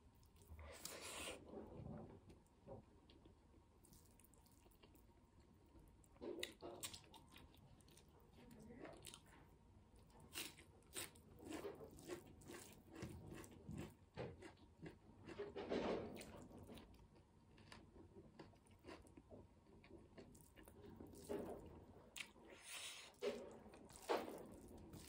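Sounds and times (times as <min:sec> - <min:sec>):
person chewing and crunching food: 0:03.0 - 0:25.0.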